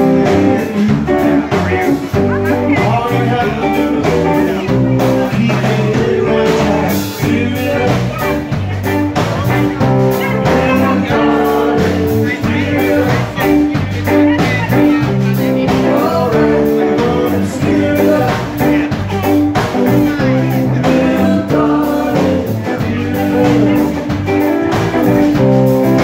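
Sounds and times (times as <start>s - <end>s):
drum kit beat: 0.0s - 26.0s
electric guitars: 0.0s - 26.0s
man singing: 0.0s - 26.0s.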